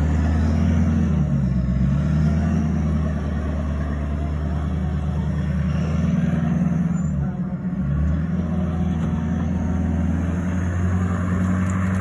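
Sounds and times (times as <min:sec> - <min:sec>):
vehicle engine running at low speed: 0:00.0 - 0:12.0.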